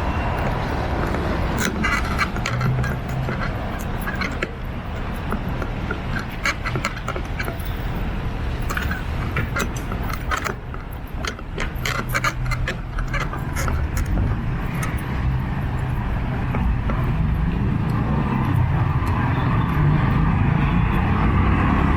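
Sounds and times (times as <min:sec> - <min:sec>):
street traffic rumble: 0:00.0 - 0:21.9.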